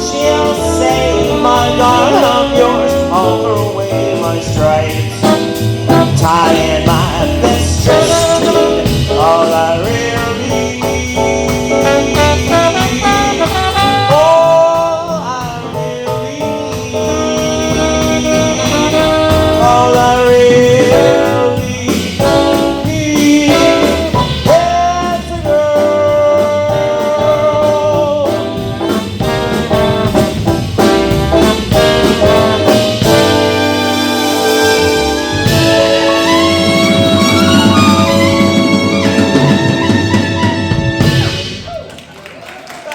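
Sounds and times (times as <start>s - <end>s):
brass horns melody: 0.0s - 41.8s
swing band playing: 0.0s - 42.9s.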